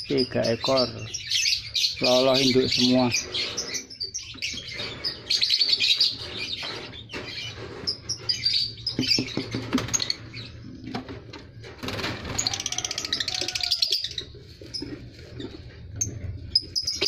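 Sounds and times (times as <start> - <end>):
lovebirds chirping: 0.0 - 11.0, 12.3 - 17.0.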